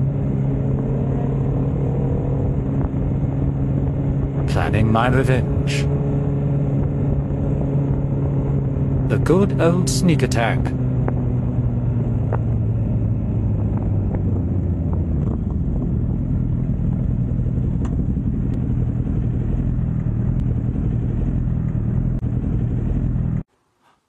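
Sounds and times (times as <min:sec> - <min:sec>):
motorcycle engine rumbling: 0:00.0 - 0:23.5
road and air noise: 0:00.0 - 0:24.0.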